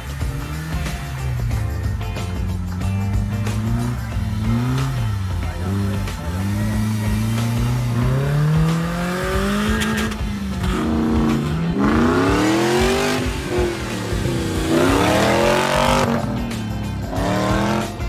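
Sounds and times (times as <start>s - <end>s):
off-road engines revving: 0.0s - 18.0s.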